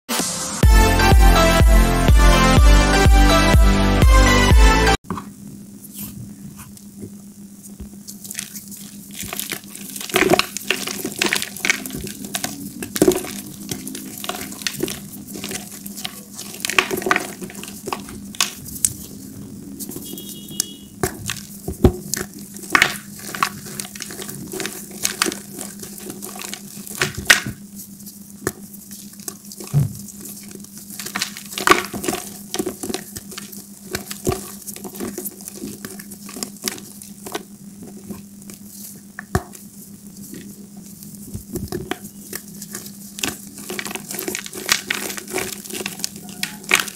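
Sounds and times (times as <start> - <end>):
faint steady hum: 5.0 - 46.9
chalk balls crunching by hand: 7.6 - 46.9.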